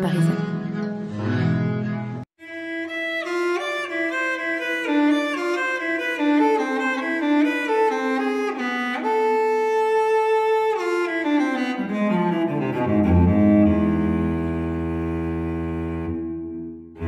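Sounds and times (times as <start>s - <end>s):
bowed strings music: 0.0s - 17.0s.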